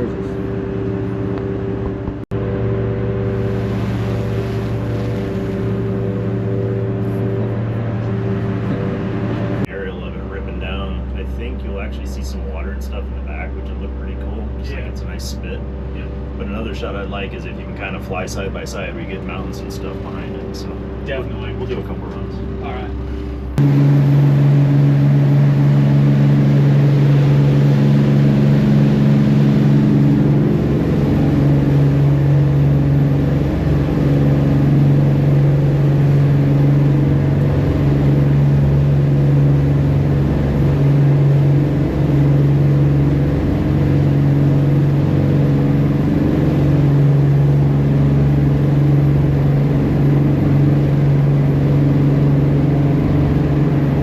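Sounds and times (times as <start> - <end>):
boat engines running: 0.0 - 54.0.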